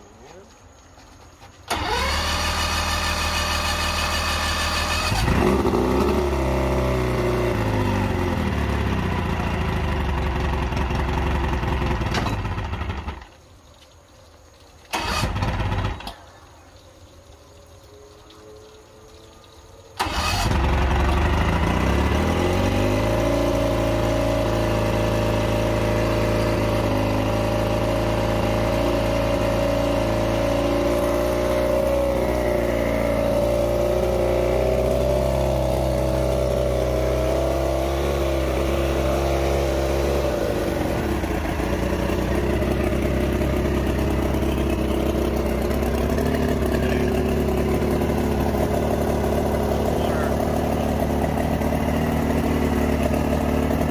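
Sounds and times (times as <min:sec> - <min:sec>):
outboard engine running: 0:01.7 - 0:13.2, 0:20.0 - 0:53.9.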